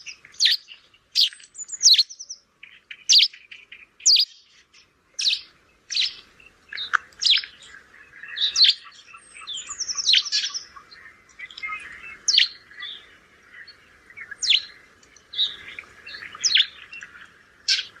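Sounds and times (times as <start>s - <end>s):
soft bird chattering: 0.0s - 13.0s, 14.2s - 18.0s
sparrows chirping: 0.0s - 18.0s.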